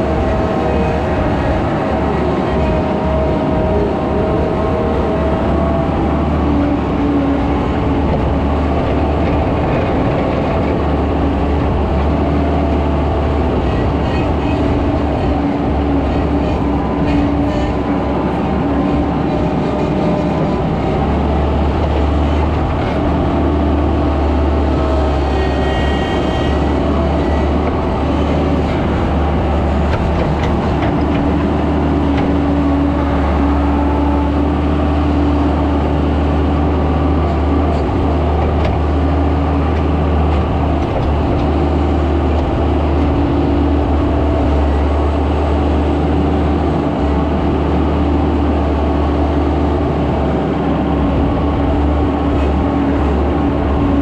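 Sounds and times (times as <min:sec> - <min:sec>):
high engine whine: 0:00.0 - 0:54.0
skid steer engine running: 0:00.0 - 0:54.0.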